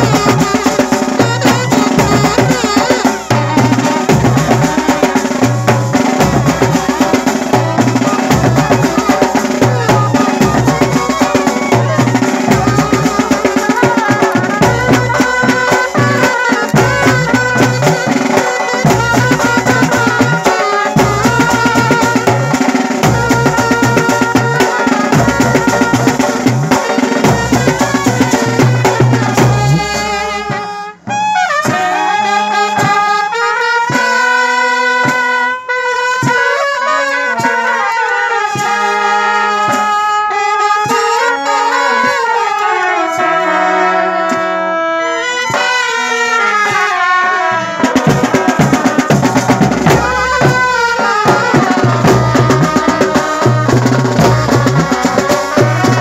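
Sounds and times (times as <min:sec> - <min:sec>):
brass band horns playing a tune: 0:00.0 - 0:56.0
drums: 0:00.0 - 0:56.0.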